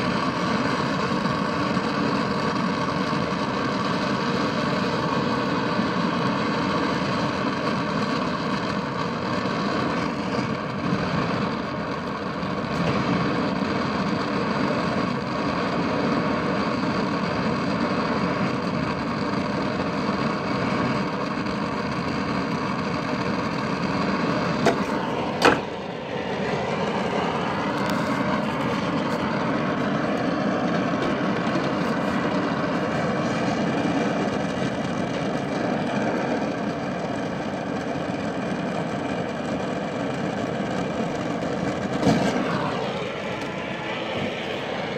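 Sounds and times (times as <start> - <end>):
torch flame: 0.0 - 44.9.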